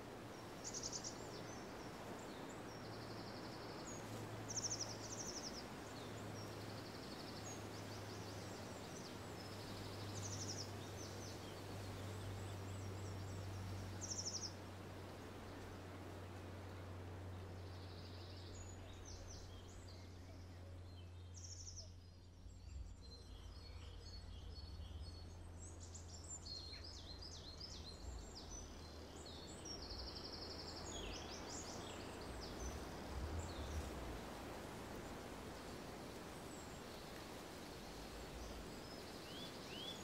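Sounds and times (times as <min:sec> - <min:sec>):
small birds chirping and trilling: 0:00.0 - 0:40.0.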